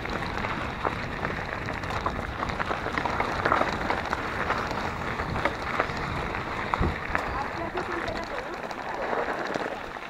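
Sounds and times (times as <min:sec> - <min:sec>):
bike clicks and rattles: 0:00.0 - 0:10.0
bike tyres crunching on gravel: 0:00.0 - 0:10.0.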